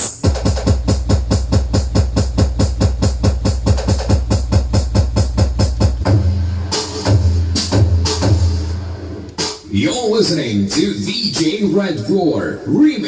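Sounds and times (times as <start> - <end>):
dance music through speaker: 0.0 - 13.0.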